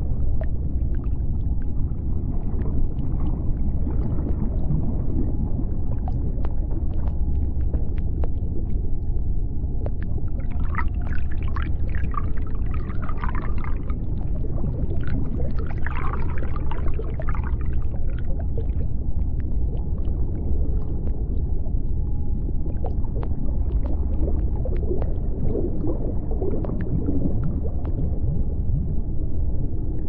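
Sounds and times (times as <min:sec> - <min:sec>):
deep underwater rumble: 0:00.0 - 0:30.0.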